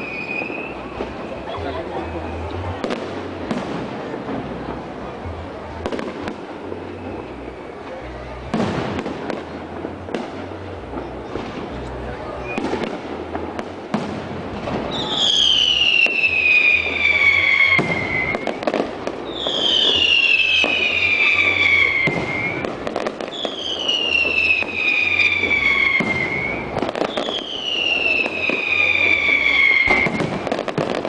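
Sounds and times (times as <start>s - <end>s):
fireworks crackling and bangs: 0.0s - 31.0s
fireworks whistling: 0.0s - 31.0s.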